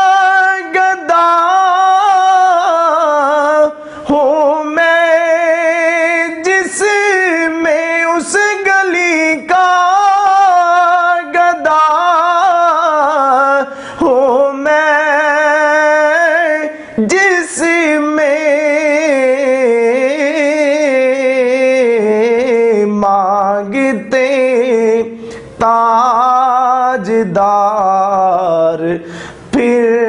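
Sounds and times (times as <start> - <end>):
man singing with vibrato: 0.0 - 30.0.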